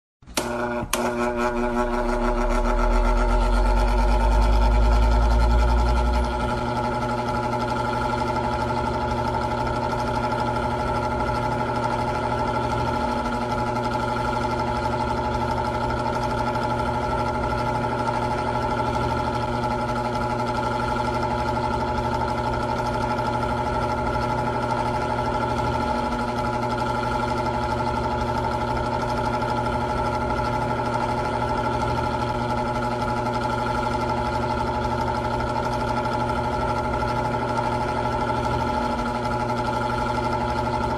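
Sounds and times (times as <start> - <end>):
electric fan motor hum: 0.2 - 40.9.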